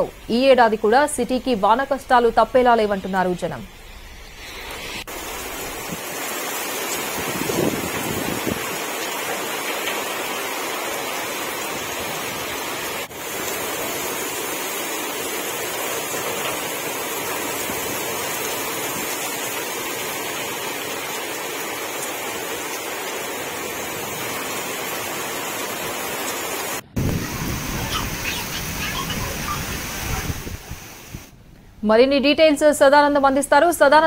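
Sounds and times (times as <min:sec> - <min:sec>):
rushing water hiss: 0:04.0 - 0:31.3.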